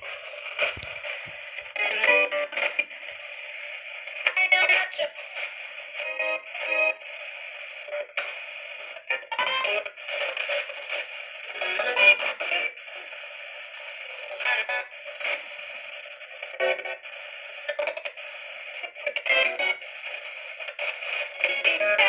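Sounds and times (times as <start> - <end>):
snatches of radio voices and music: 0.0 - 22.0
tinny hiss from small speaker: 0.0 - 22.0.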